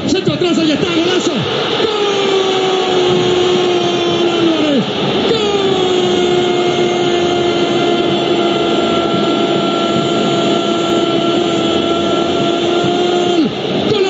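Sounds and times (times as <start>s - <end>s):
commentator shouting goal cry: 0.0s - 14.0s
stadium crowd roaring: 0.0s - 14.0s.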